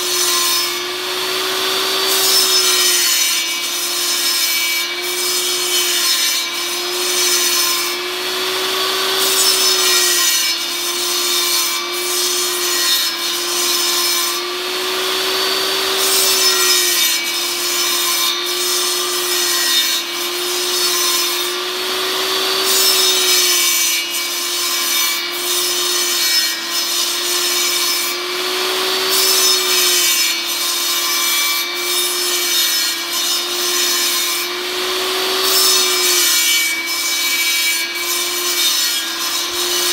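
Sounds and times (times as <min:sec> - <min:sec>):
table saw cutting wood: 0:00.0 - 0:39.9.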